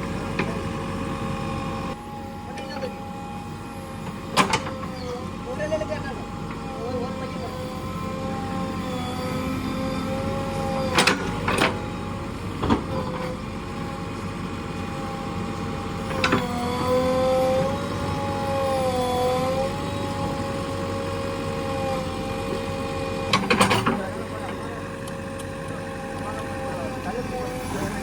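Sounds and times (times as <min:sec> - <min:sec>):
backhoe loader whine: 0:00.0 - 0:28.0.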